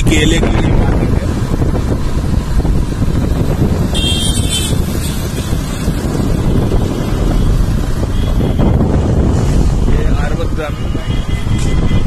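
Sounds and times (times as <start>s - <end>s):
vehicle road noise: 0.0s - 12.0s
wind buffeting microphone: 0.0s - 12.0s.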